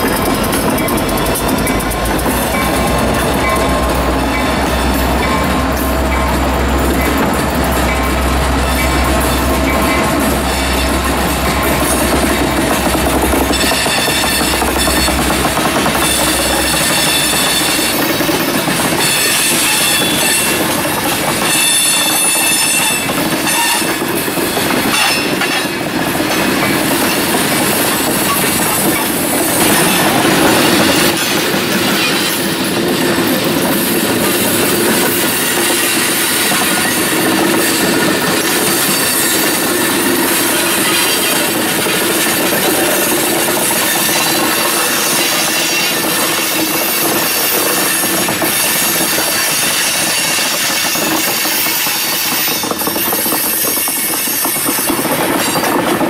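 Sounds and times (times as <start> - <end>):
freight train rumbling past: 0.0 - 56.0
train wheel squeal: 0.0 - 56.0.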